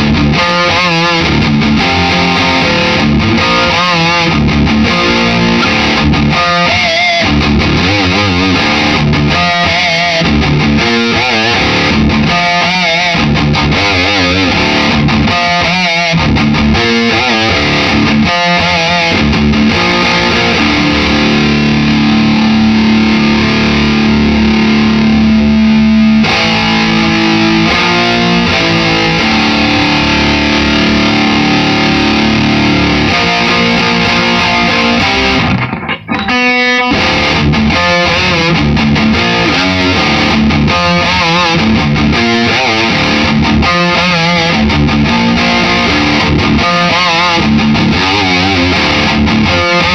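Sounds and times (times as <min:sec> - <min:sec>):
distorted electric guitar: 0:00.0 - 0:49.9.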